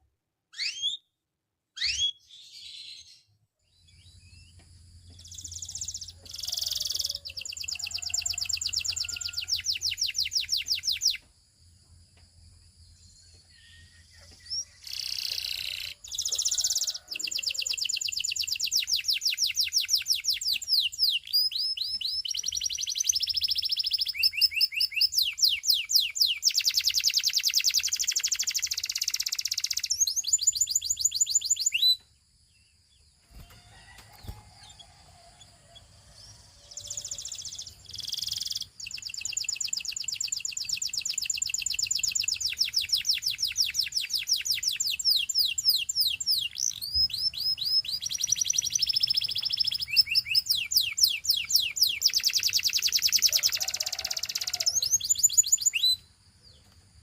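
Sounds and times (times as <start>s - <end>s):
canary singing trills: 0.5s - 1.1s, 1.8s - 3.2s, 3.9s - 11.3s, 13.0s - 32.0s, 33.3s - 56.8s.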